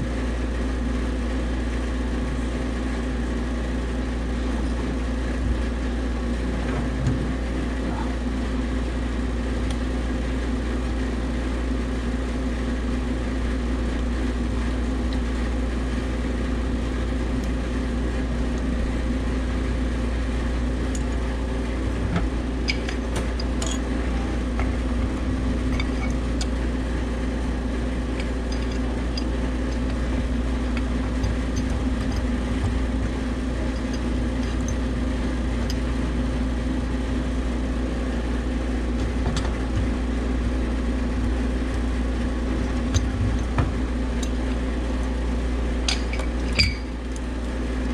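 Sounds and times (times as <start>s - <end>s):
refrigeration unit humming: 0.0s - 47.9s.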